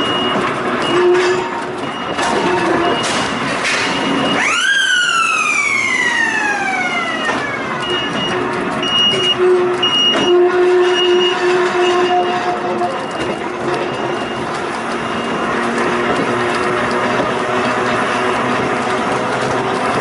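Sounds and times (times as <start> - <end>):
electric train whine: 0.5 - 20.0.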